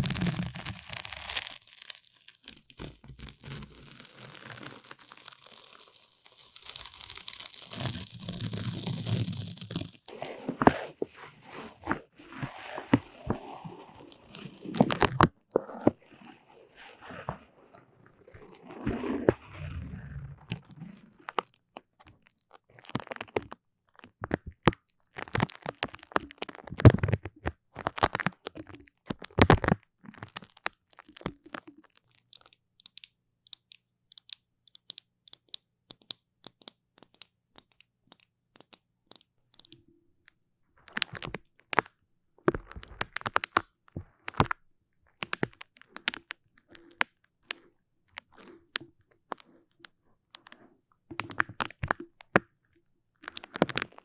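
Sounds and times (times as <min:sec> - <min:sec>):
sticky material crackling peel: 0:00.0 - 0:33.0, 0:40.8 - 0:50.6, 0:51.2 - 0:52.4, 0:53.2 - 0:54.0.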